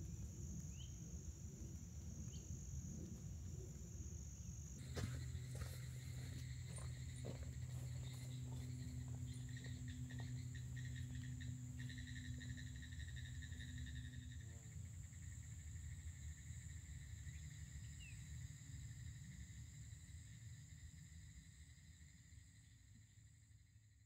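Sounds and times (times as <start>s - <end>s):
insects trilling: 0.0s - 24.0s
low steady hum: 0.0s - 24.0s.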